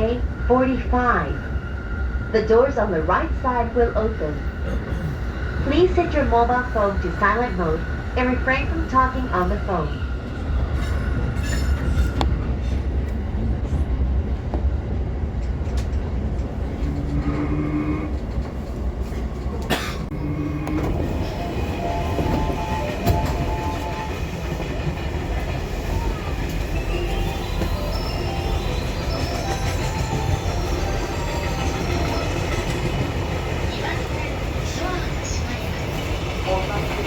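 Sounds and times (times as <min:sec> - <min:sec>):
train low rumble: 0:00.0 - 0:37.0.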